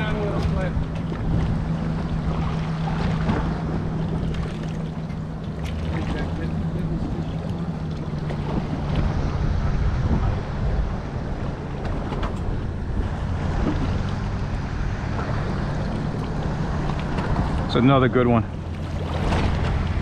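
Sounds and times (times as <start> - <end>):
boat engine humming: 0.0 - 20.0
water washing around boat: 0.0 - 20.0
wind buffeting microphone: 0.0 - 20.0.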